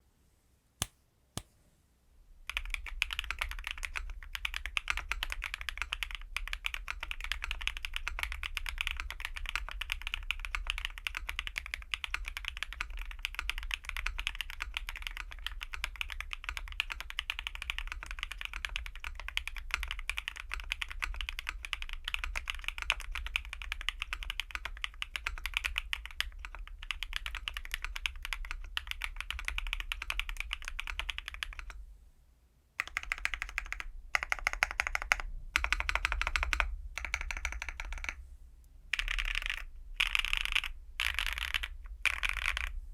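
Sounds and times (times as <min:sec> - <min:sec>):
mechanical keyboard typing: 0:02.5 - 0:31.8, 0:32.8 - 0:38.2, 0:38.9 - 0:42.8.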